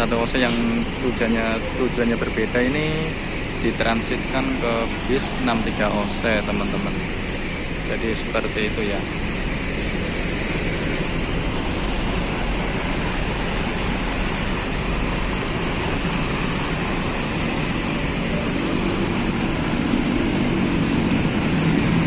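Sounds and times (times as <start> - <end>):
diesel engines idling: 0.0 - 22.0.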